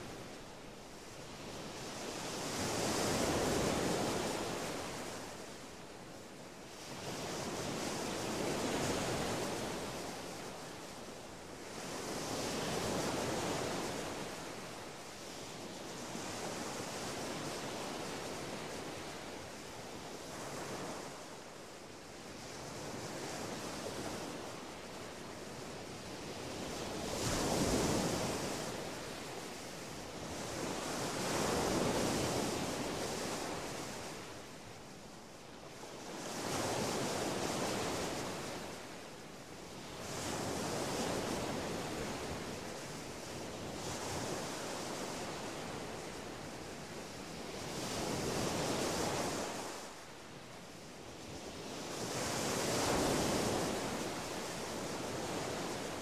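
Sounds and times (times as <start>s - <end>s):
small waves breaking on beach: 0.0s - 56.0s.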